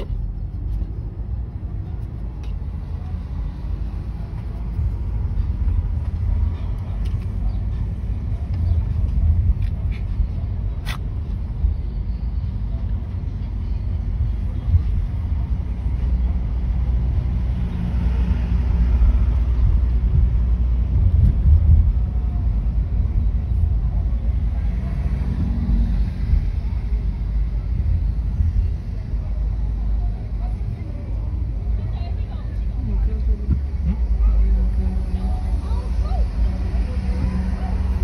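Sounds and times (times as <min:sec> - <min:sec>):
car rumble from inside cabin: 0:00.0 - 0:38.0.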